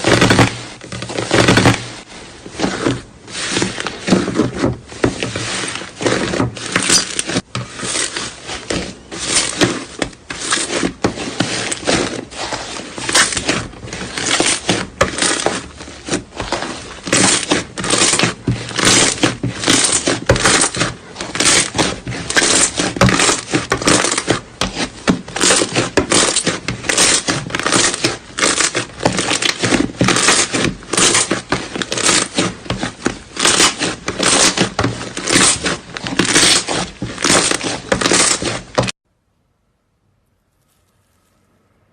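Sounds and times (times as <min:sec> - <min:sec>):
slime squelching by hand: 0:00.0 - 0:38.8.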